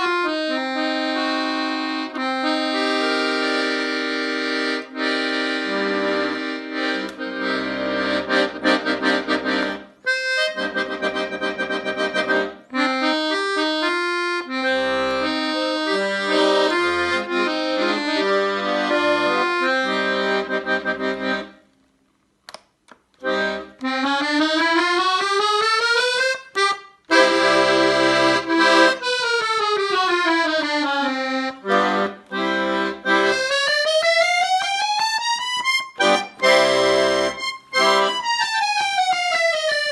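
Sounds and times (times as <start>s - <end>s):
accordion playing: 0.0s - 21.8s, 23.2s - 39.9s.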